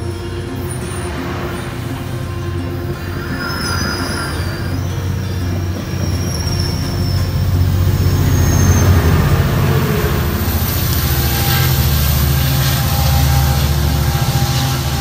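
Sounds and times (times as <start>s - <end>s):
diesel locomotive engine drone: 0.0s - 15.0s
wheels on rails: 0.0s - 15.0s.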